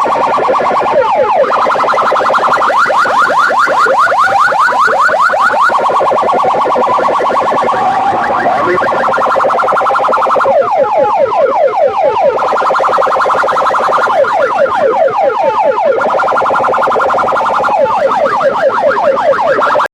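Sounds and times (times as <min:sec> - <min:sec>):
electronic alarm siren: 0:00.0 - 0:19.9.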